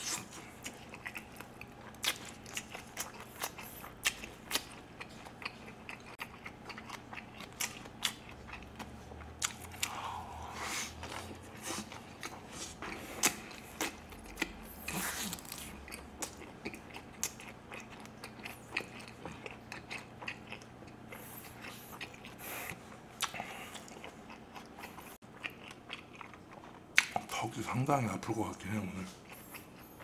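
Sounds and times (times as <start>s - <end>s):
chewing food: 0.0s - 30.0s.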